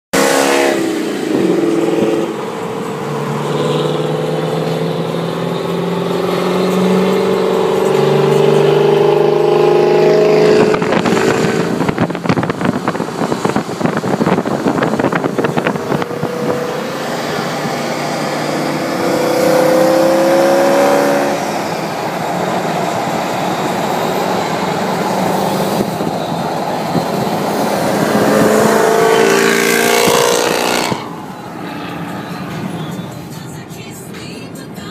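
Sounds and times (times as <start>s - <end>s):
car engine accelerating: 0.1s - 33.5s.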